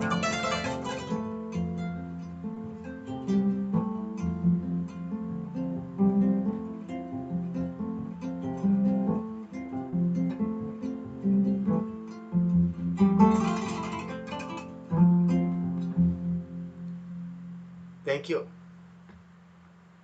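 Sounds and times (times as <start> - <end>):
plucked harp melody: 0.0 - 19.1.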